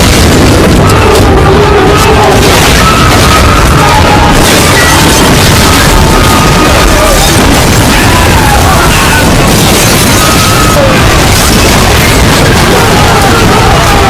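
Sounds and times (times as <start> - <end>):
clipped distorted noise: 0.0 - 14.0.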